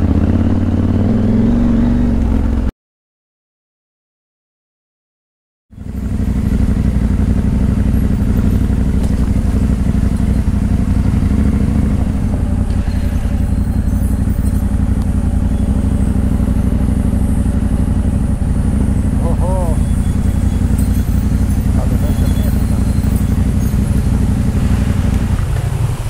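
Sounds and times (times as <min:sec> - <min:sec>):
motorcycle engine running: 0:00.0 - 0:02.7, 0:05.7 - 0:26.0.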